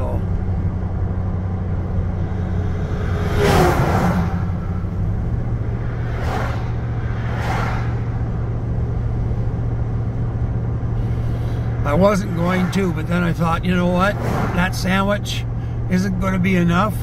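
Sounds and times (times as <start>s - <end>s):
passing truck whoosh: 0.0s - 13.2s, 13.9s - 15.8s
vehicle engine and road drone: 0.0s - 17.0s
passing vehicle whooshes: 0.4s - 14.9s.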